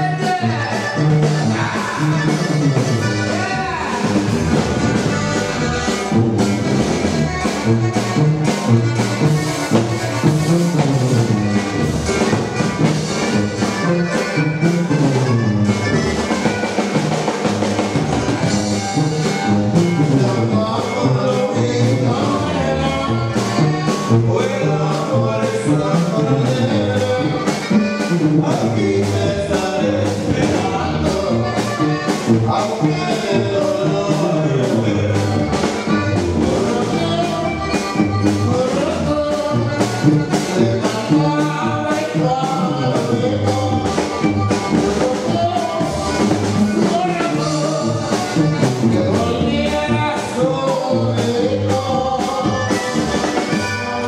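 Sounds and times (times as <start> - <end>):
person singing: 0.0 - 15.1, 18.6 - 54.0
latin dance music: 0.0 - 54.0.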